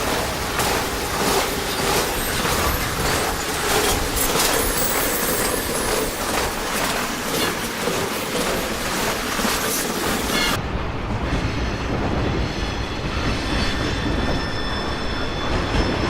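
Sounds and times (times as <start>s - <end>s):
train wheels clattering over rails: 0.0s - 16.0s
faint high wheel squeal: 0.6s - 10.6s, 12.5s - 16.0s.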